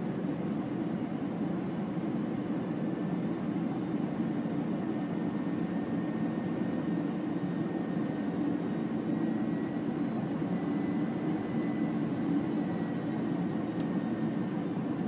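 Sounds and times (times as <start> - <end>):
jet engines and airflow drone: 0.0 - 15.0
faint high whine: 1.0 - 15.0.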